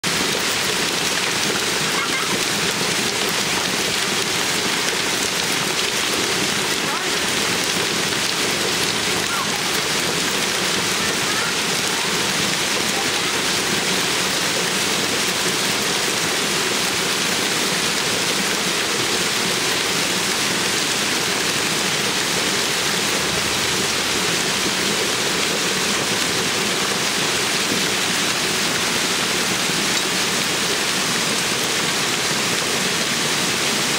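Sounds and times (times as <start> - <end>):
heavy hail pelting down: 0.0 - 33.9.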